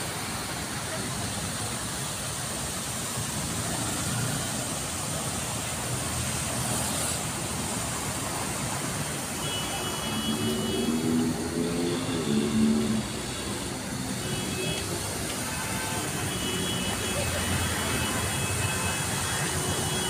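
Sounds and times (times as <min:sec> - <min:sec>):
city road traffic: 0:00.0 - 0:20.0.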